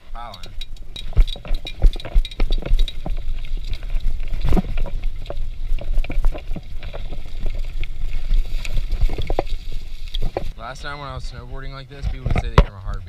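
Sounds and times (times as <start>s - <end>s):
bicycle frame and chain rattling: 0.0s - 13.0s
tyres rolling on dirt: 0.0s - 13.0s.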